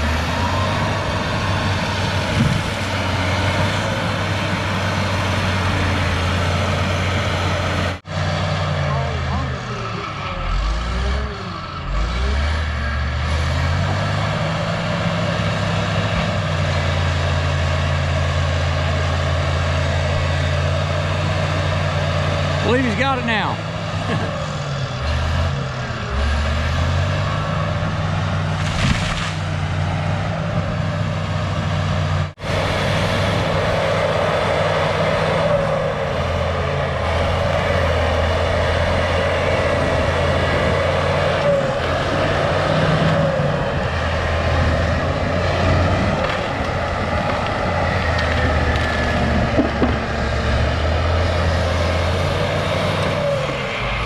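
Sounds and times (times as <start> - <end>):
bulldozer diesel engine under load: 0.0 - 54.0
bulldozer track and blade noise: 0.0 - 54.0.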